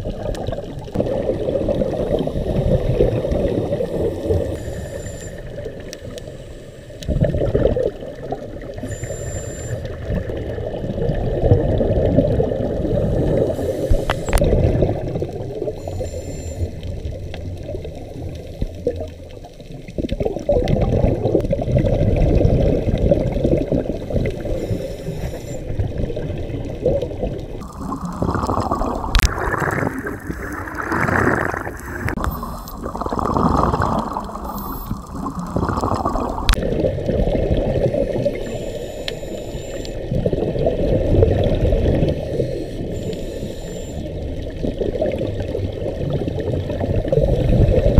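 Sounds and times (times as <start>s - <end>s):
underwater churning rumble: 0.0s - 8.8s, 9.8s - 15.9s, 16.6s - 38.5s, 40.0s - 43.2s, 44.0s - 47.9s.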